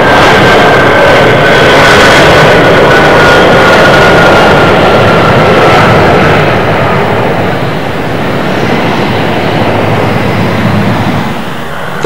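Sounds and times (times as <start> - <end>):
jet aircraft roar with whine: 0.0 - 12.0.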